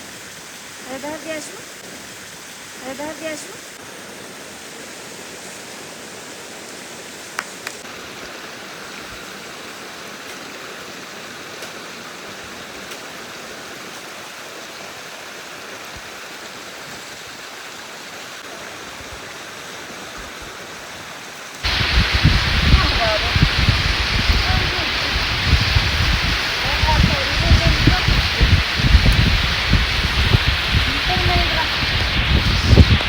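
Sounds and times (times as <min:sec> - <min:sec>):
running water: 0:00.0 - 0:33.0.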